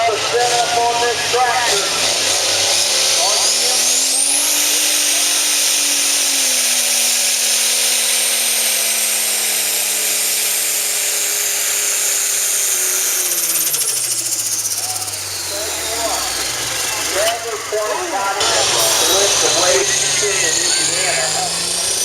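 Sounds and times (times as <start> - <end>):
diesel tractor engine under load: 0.0 - 22.0
turbocharger whining: 0.0 - 22.0.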